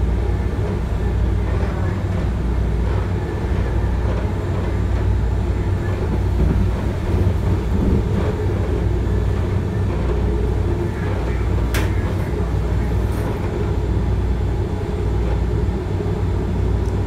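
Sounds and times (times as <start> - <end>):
light-rail car rumbling: 0.0 - 17.0.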